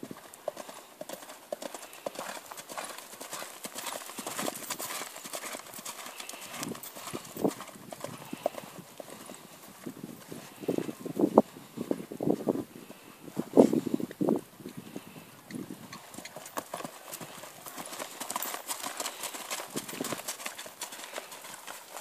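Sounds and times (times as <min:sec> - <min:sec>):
horse hoofbeats on grass: 0:00.0 - 0:12.6, 0:15.4 - 0:22.0.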